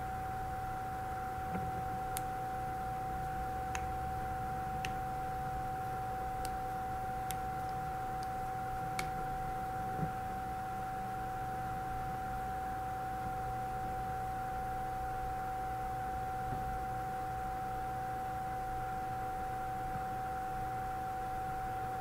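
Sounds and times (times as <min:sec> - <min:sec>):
electrical hum and hiss: 0:00.0 - 0:22.0.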